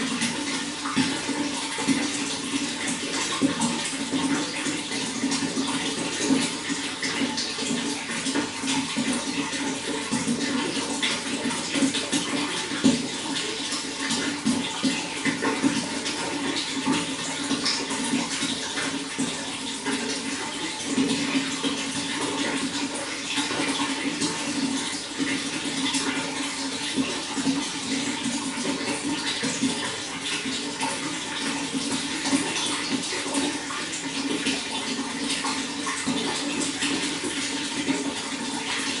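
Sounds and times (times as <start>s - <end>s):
water running: 0.0s - 39.0s.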